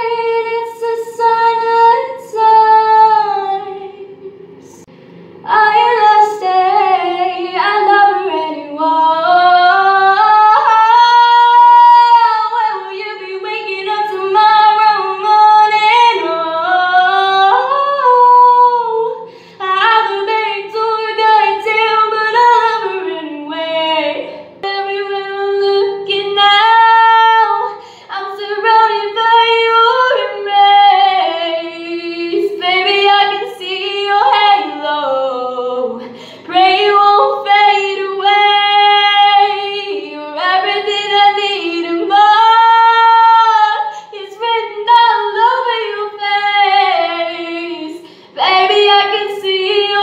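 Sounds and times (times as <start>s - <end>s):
woman singing with echo: 0.0s - 50.0s.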